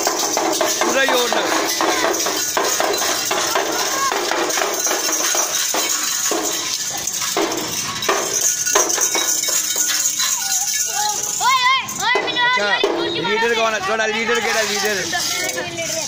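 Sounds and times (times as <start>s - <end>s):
jangle of metallic clinks: 0.0s - 16.0s.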